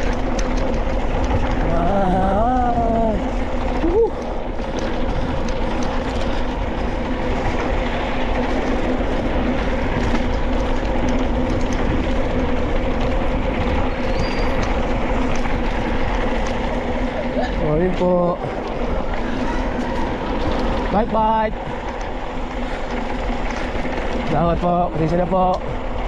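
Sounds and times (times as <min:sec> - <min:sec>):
bike rattles and clicks: 0:00.0 - 0:26.0
bike tyre and wind rush: 0:00.0 - 0:26.0
low hum: 0:00.0 - 0:26.0.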